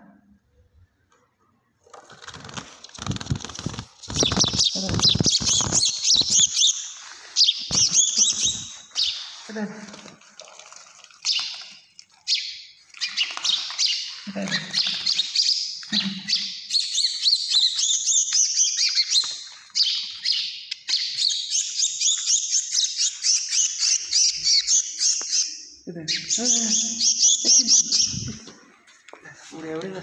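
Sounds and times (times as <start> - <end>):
small bird chirping rapidly: 2.2 - 9.6, 11.2 - 28.4.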